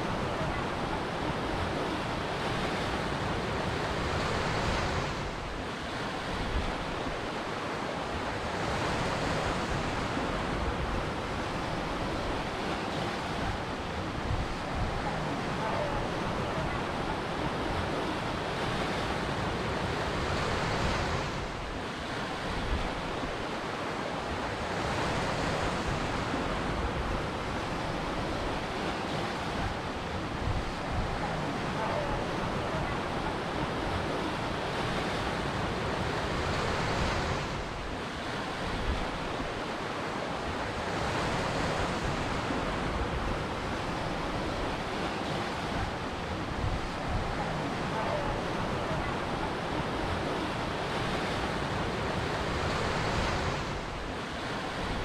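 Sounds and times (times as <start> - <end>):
ocean surf washing in: 0.0 - 55.0.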